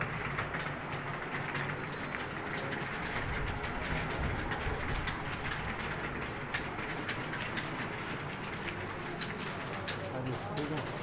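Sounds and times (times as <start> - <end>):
keyboards clattering: 0.0 - 11.0.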